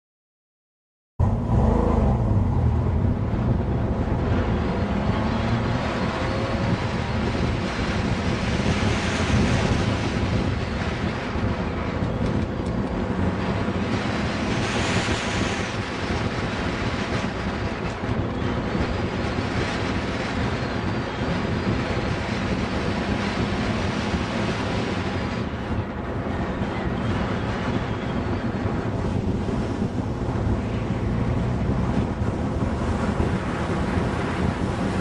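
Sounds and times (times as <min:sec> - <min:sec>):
car engine running hard: 0:01.2 - 0:35.0
wind buffeting microphone: 0:01.2 - 0:35.0.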